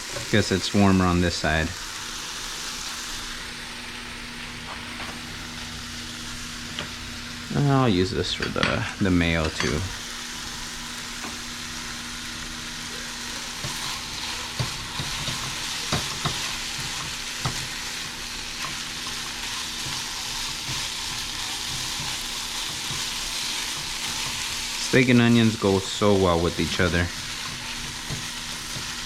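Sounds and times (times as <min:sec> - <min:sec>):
steak and onions sizzling in a pan: 0:00.0 - 0:29.0.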